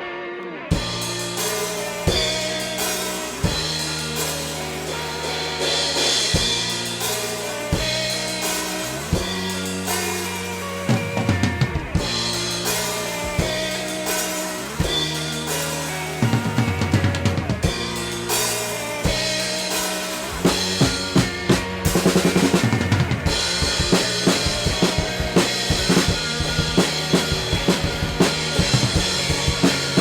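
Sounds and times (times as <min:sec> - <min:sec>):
rock band music: 0:00.0 - 0:30.0
drum fill: 0:00.7 - 0:30.0.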